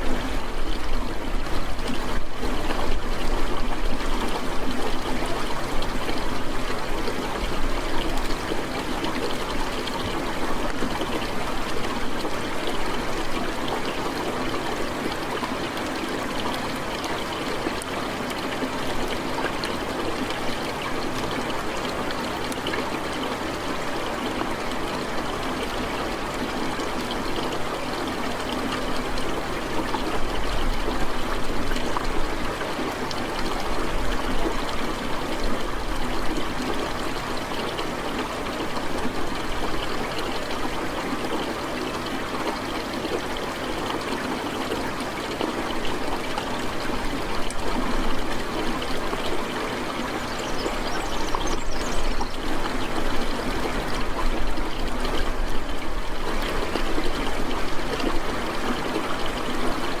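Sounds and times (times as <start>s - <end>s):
trickling running water: 0.0s - 60.0s.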